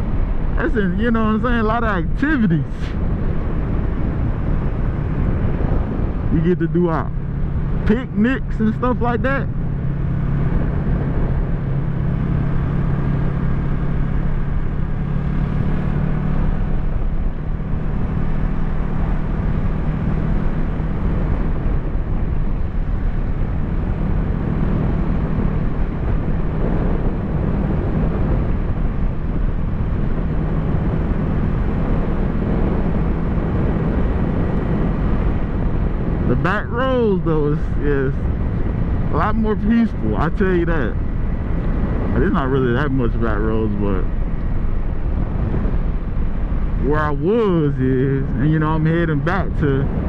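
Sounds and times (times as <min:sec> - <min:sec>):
motorcycle engine cruising: 0:00.0 - 0:50.0
wind on microphone: 0:00.0 - 0:50.0.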